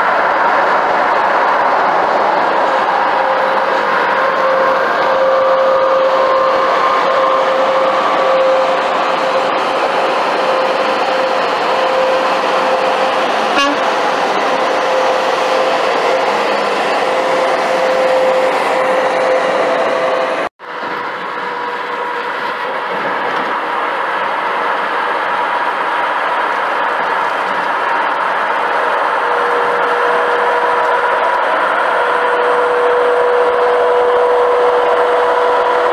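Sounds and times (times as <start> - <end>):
road and wind noise: 0.0 - 35.9.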